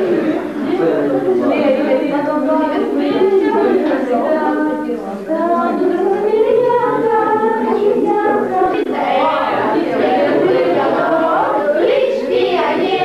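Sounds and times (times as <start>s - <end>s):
group singing: 0.0s - 13.0s.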